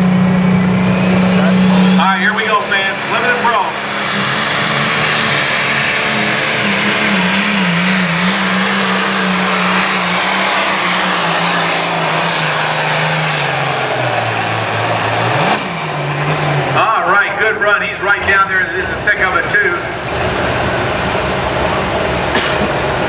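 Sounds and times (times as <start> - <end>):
tractor diesel engine at full throttle: 0.0 - 23.0.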